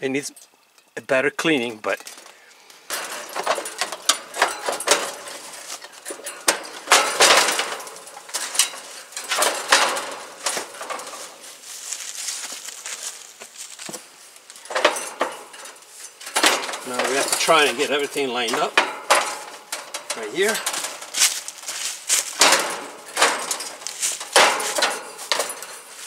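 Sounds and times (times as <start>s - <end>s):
sheet metal cover clanking: 2.0s - 13.3s, 14.6s - 26.0s.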